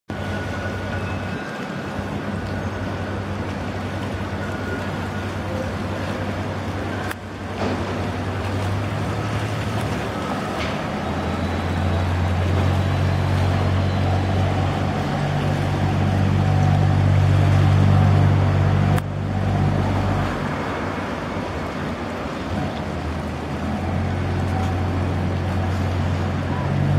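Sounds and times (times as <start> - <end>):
ferry diesel engines droning: 0.1 - 26.9
propeller churned water rushing: 0.1 - 26.9.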